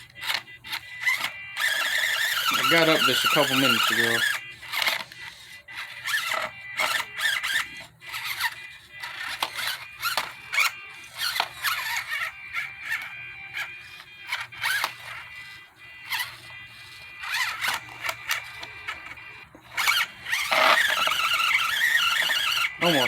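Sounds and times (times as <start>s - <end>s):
electric motor and gears whining: 0.0s - 23.0s.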